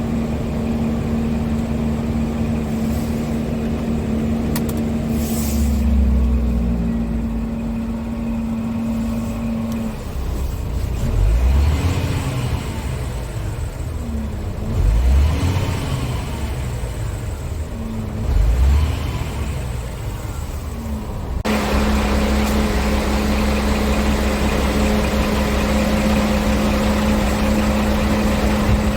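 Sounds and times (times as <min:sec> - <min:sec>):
diesel truck engine running: 0:00.0 - 0:28.9.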